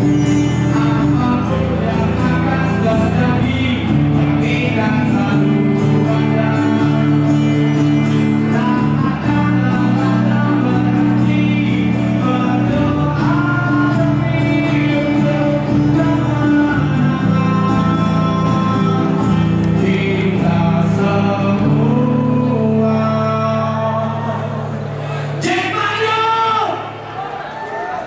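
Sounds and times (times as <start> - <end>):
acoustic guitar: 0.0 - 26.2
man singing: 0.0 - 26.8.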